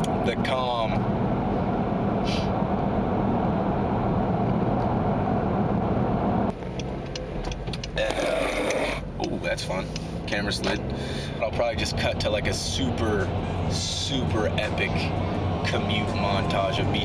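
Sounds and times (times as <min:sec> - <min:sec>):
engine and tyre drone: 0:00.0 - 0:17.0.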